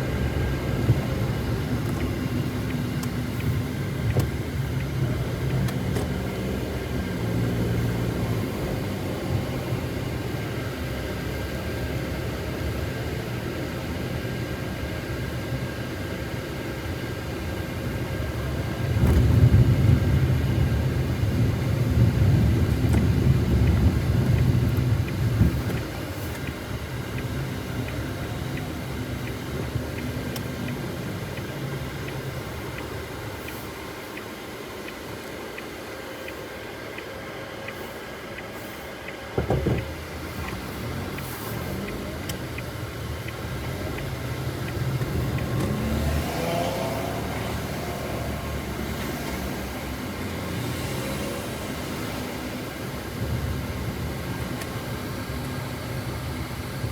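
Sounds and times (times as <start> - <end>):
low engine rumble: 0.0 - 56.9.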